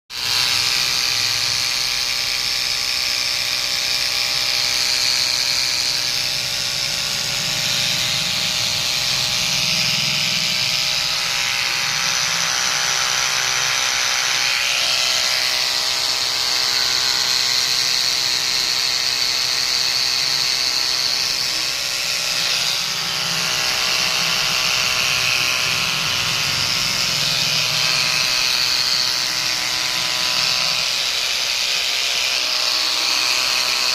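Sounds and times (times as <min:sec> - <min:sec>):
electric hair clipper buzzing: 0:00.1 - 0:33.9.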